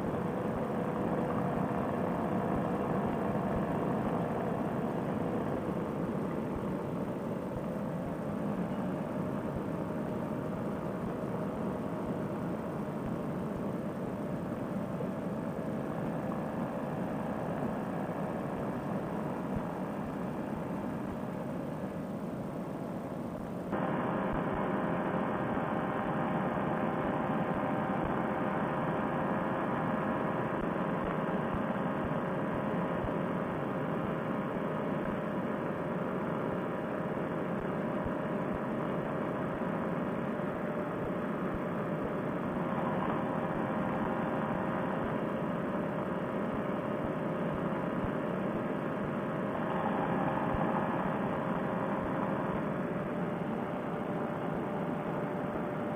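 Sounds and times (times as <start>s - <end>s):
paramotor engine droning: 0.0s - 55.9s.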